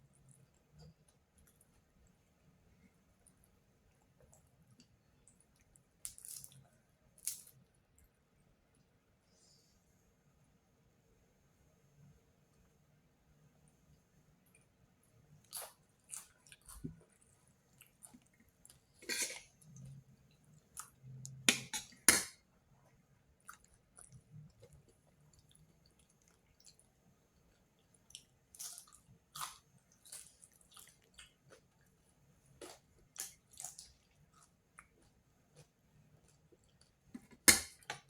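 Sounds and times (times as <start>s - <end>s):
cat chewing and crunching food: 0.0s - 9.1s, 13.6s - 38.0s.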